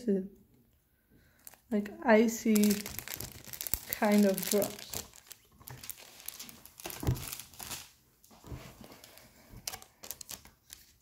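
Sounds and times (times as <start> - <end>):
packaging crinkling and rustling: 1.4 - 11.0.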